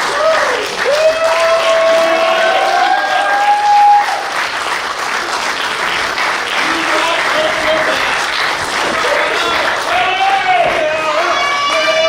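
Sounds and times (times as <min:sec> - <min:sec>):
crowd clapping and cheering: 0:00.0 - 0:12.0.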